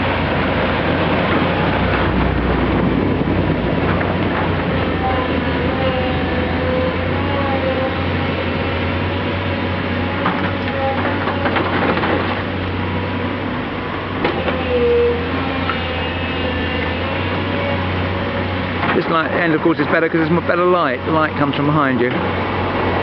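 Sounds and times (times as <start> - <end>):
diesel machinery engine drone: 0.0 - 23.0.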